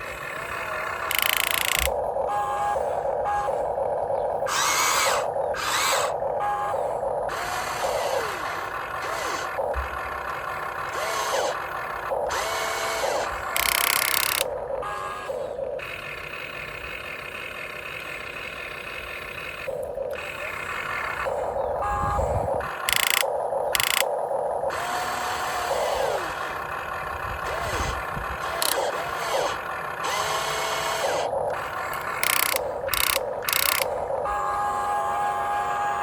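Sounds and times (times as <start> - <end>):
electric motors whining: 0.0 - 36.0.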